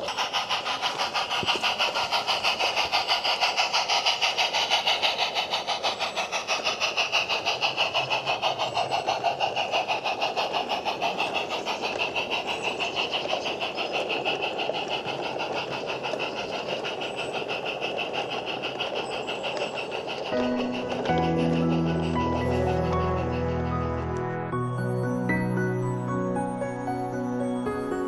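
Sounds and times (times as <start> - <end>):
model train clattering: 0.0 - 24.3.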